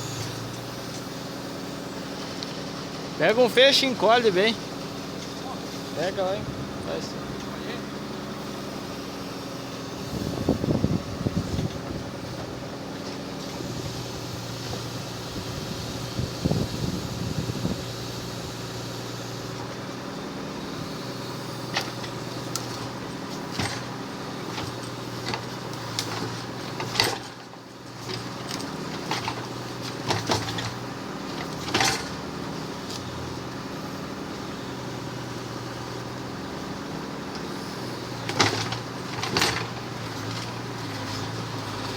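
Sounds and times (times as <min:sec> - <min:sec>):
crane hydraulics and engine running: 0:00.0 - 0:41.9.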